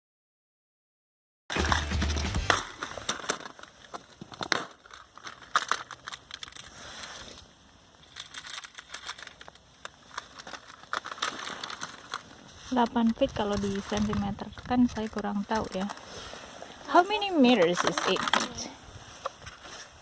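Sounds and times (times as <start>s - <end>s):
snow and ice crunching: 1.5s - 20.0s.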